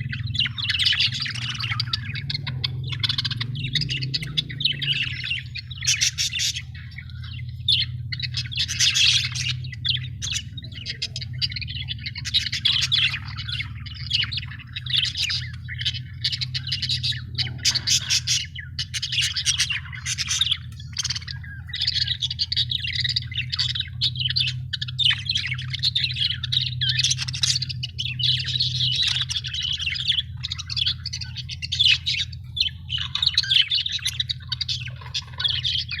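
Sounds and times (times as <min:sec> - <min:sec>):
budgerigars chirping: 0:00.0 - 0:36.0
steady low hum: 0:00.0 - 0:36.0.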